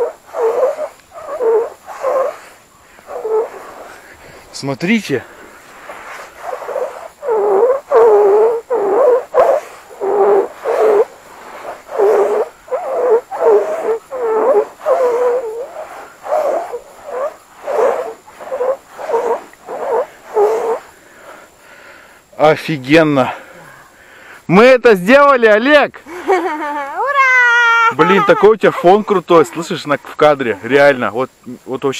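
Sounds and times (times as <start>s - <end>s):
singing sand whistling: 0.0s - 24.7s, 26.4s - 31.0s.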